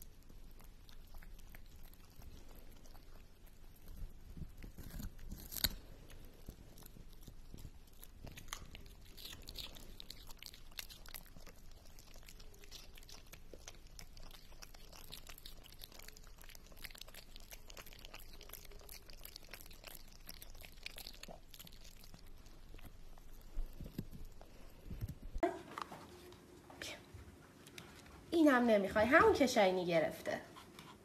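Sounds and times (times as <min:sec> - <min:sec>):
dog crunching a carrot: 0:00.0 - 0:26.0.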